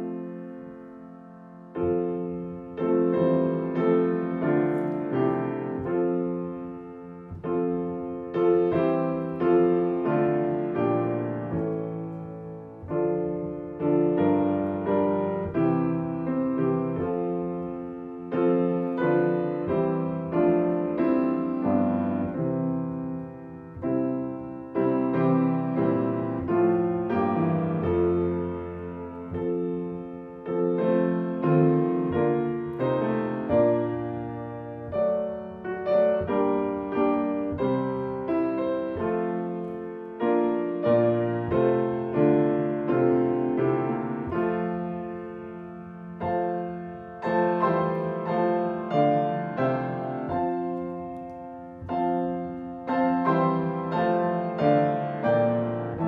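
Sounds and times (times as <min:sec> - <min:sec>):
slow chordal piano piece: 0:00.0 - 0:56.0.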